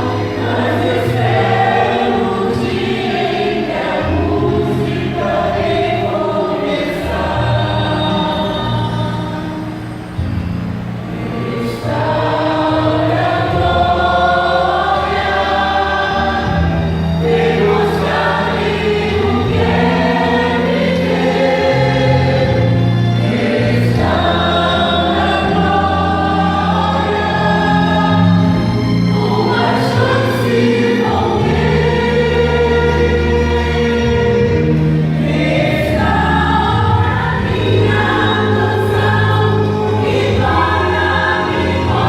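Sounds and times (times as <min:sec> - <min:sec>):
choir singing: 0:00.0 - 0:42.0
instrumental backing with bass: 0:00.0 - 0:42.0.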